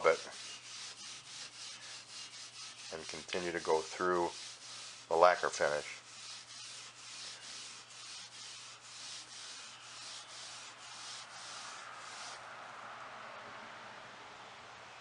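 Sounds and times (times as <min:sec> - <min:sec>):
steel wool rubbing on wood: 0:00.0 - 0:12.4.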